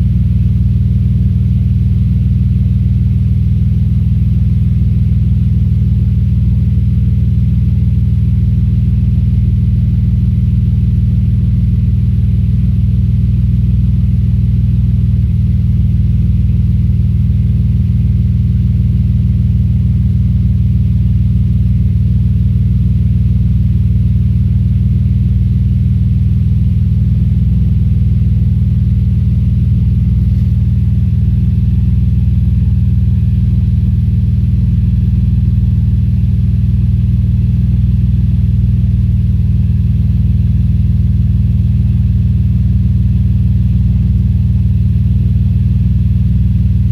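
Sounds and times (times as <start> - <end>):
car engine idling with misfire: 0.0 - 46.9.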